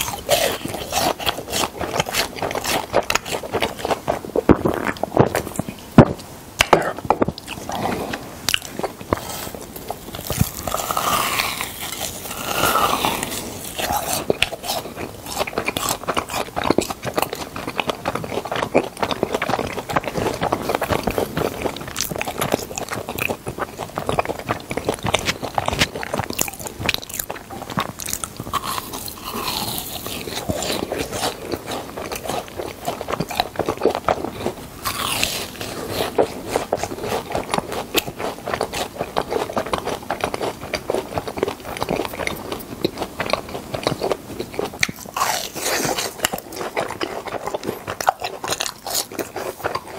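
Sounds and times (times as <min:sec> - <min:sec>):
crunching fried cheese balls: 0:00.0 - 0:49.9.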